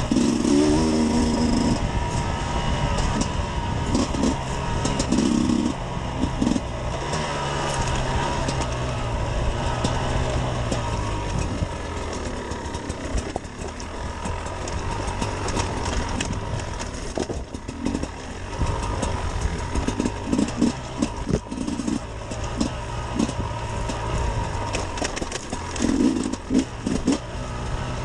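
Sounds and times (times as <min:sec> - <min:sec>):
two-stroke motorcycle engine revving: 0:00.0 - 0:28.0
sharp clicks and knocks: 0:02.9 - 0:27.8.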